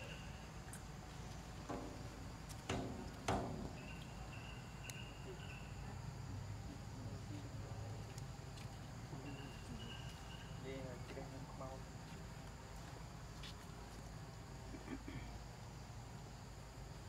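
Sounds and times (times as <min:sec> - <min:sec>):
insects chirping: 0:00.0 - 0:17.0
steady background noise: 0:00.0 - 0:17.0.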